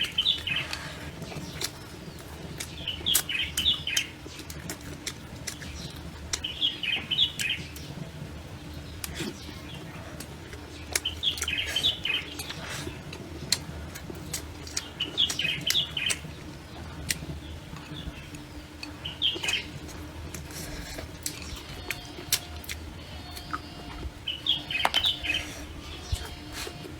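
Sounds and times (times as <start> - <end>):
low background hum: 0.0 - 26.9
small birds chirping: 0.0 - 26.9.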